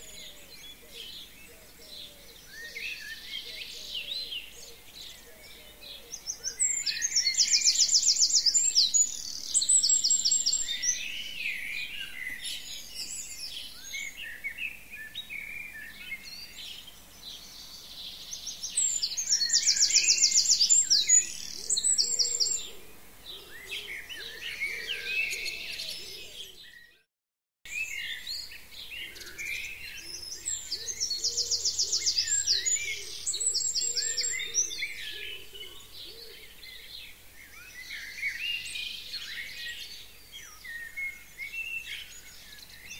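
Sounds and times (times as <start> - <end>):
songbirds singing: 0.0 - 27.1, 27.7 - 42.9.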